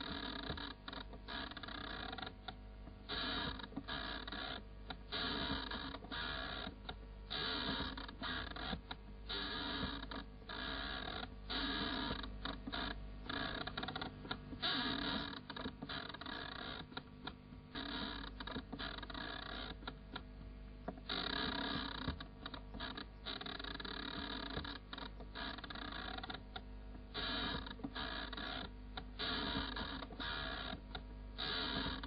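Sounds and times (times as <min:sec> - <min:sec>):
crackling rasping noise: 0:00.0 - 0:32.0
steady low hum: 0:00.0 - 0:32.0.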